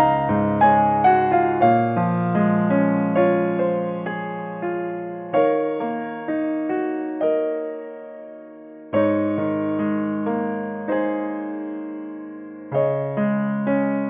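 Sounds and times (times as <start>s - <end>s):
slow piano melody: 0.0s - 14.0s.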